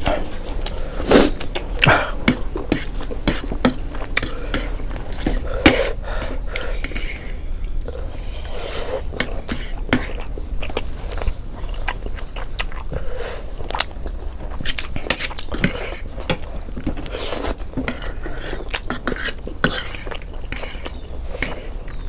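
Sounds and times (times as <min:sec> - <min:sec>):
biting and chewing: 0:00.5 - 0:22.0.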